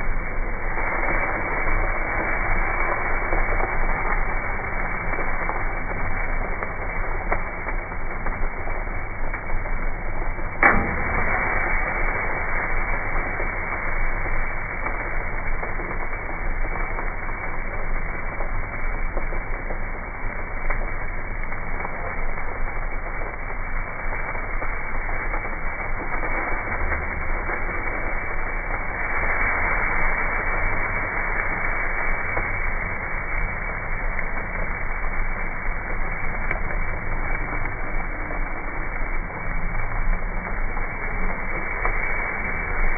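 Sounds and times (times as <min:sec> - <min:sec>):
meat sizzling on a grill: 0:00.0 - 0:42.9.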